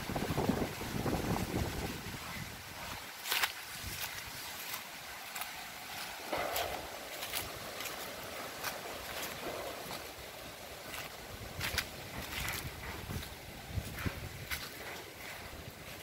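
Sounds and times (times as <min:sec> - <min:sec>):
strong gusty wind through trees: 0:00.0 - 0:16.0.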